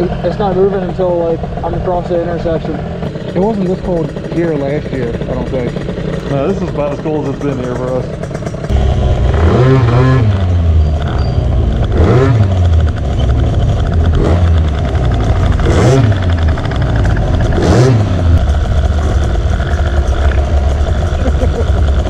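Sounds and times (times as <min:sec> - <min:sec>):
scooter engine revving: 0:00.0 - 0:22.0.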